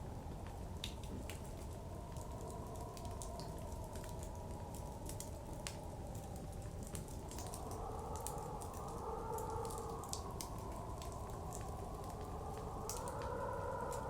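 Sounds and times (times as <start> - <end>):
blizzard wind: 0.0 - 14.0
wood fire crackling: 0.0 - 14.0.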